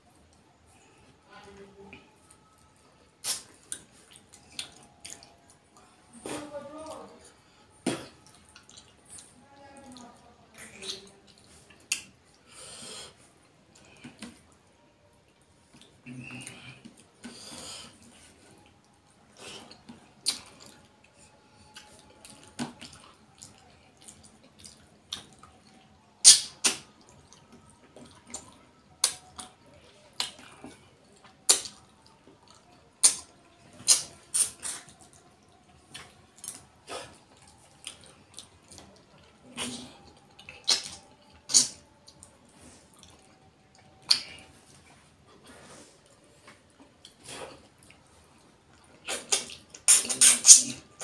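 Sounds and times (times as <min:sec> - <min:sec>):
wet eating mouth sounds: 0:01.9 - 0:07.1, 0:15.3 - 0:51.0.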